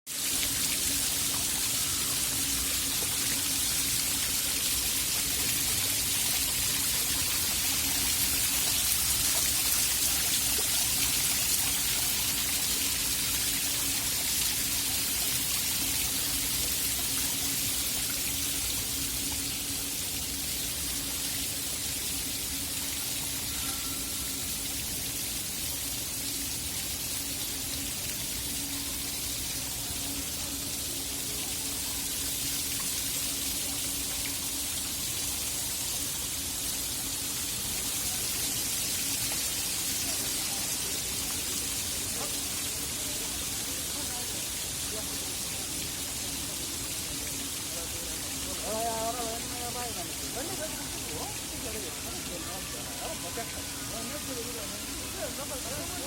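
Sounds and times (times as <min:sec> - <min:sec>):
falling splashing water: 0:00.1 - 0:56.0.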